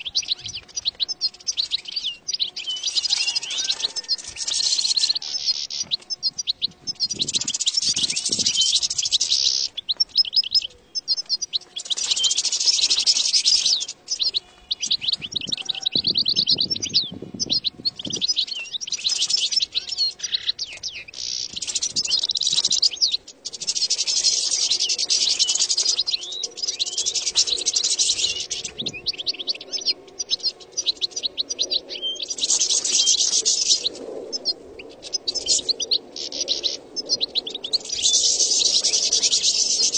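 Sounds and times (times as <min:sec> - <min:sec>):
goldfinch song: 0:00.0 - 0:39.9.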